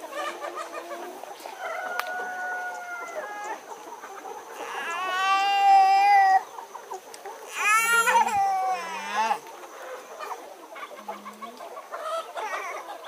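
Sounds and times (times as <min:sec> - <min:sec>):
roosters crowing: 0:00.0 - 0:06.6, 0:07.4 - 0:13.0.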